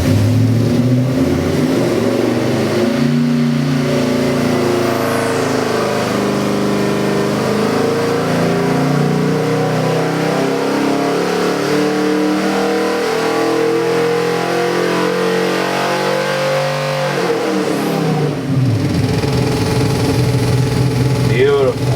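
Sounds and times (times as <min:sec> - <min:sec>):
engine revving: 0:00.0 - 0:21.9.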